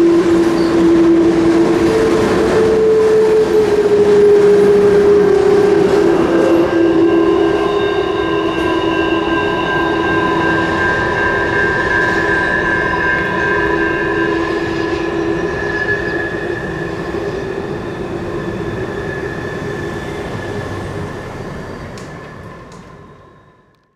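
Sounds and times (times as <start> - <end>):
train rumble: 0.0 - 23.9
train wheels squealing: 0.0 - 23.9.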